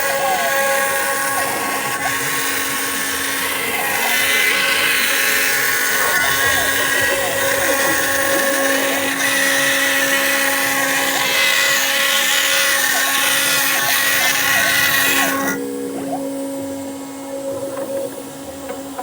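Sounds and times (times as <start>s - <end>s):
router cutting plastic: 0.0s - 15.6s
spindle whine: 0.0s - 19.0s.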